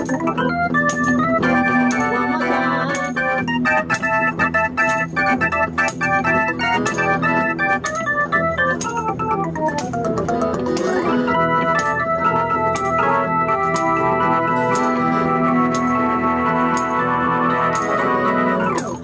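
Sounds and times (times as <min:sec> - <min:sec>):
double bass: 0:00.0 - 0:19.0
electronic keyboard melody: 0:00.0 - 0:19.0
short sharp ticks keeping time: 0:00.0 - 0:19.0.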